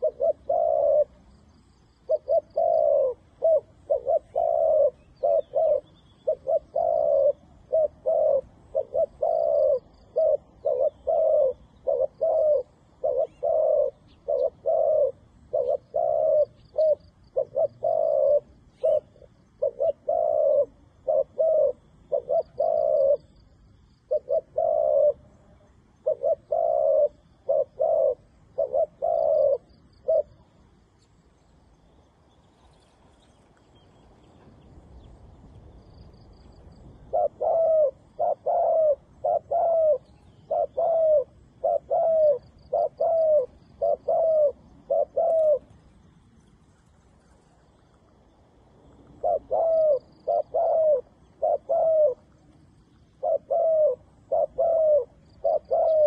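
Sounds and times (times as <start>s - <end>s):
doves cooing: 0.0s - 31.0s, 35.9s - 48.1s, 48.8s - 56.0s.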